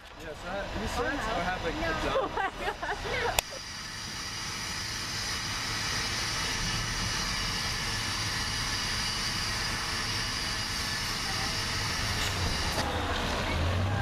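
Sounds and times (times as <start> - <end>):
bus engine humming: 0.0 - 14.0.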